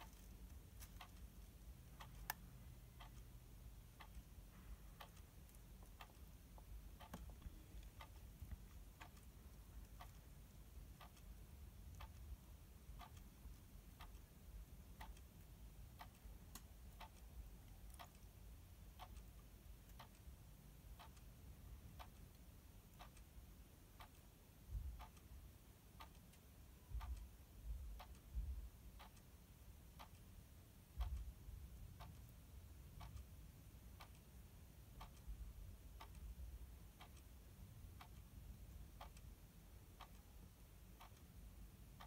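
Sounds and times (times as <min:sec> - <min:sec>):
clock ticking: 0:00.0 - 0:42.0.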